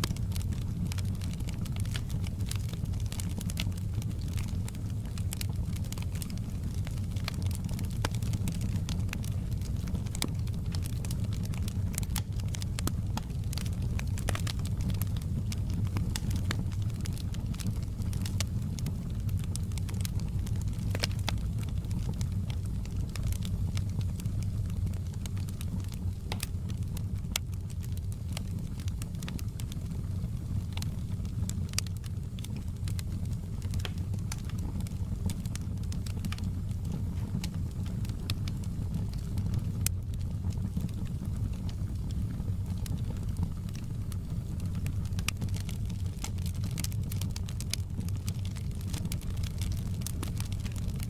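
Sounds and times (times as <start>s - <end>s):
fire crackling and popping: 0.0s - 51.0s
fire rumbling: 0.0s - 51.0s.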